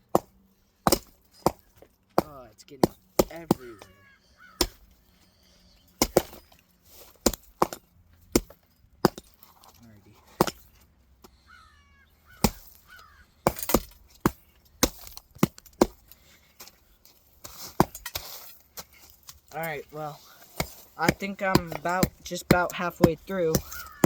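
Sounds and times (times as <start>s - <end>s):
axes chopping logs: 0.0s - 5.0s, 6.0s - 9.7s, 10.3s - 11.4s, 12.3s - 24.0s.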